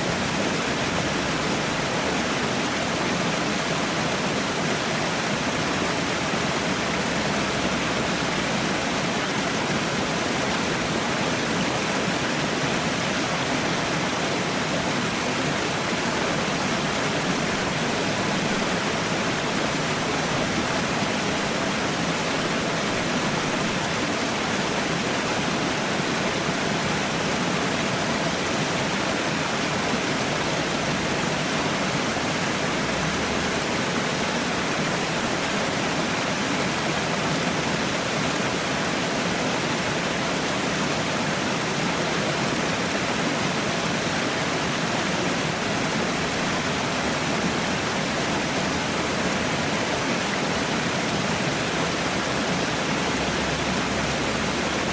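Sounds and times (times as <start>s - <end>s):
small waterfall rushing: 0.0s - 54.9s.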